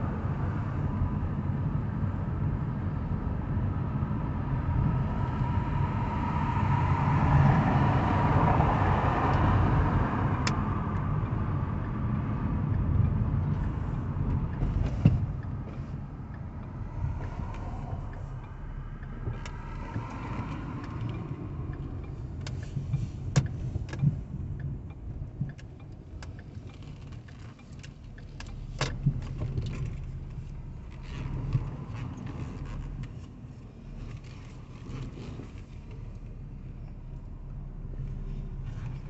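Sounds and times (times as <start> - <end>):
engine and road rumble: 0.0 - 39.0.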